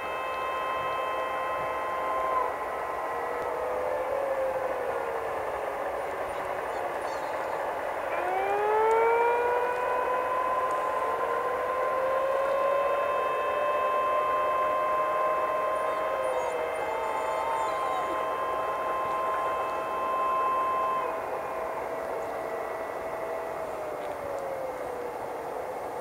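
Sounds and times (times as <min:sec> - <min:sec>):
warning sirens wailing: 0:00.0 - 0:26.0.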